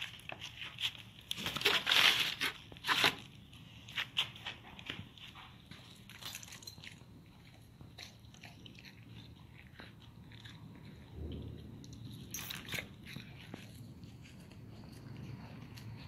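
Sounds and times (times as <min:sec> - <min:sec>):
dog chewing and crunching: 0:00.0 - 0:16.0.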